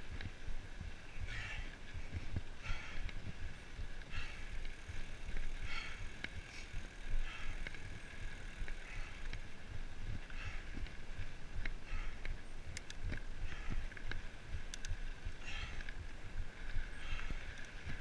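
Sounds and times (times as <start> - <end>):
bike clicking and rattling: 0.0 - 18.0
bike tyres on gravel: 0.0 - 18.0
wind on microphone: 0.0 - 18.0.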